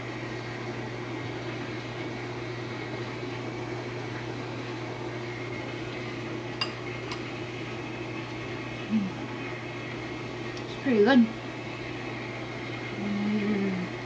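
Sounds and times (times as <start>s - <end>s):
household appliance humming: 0.0s - 14.0s.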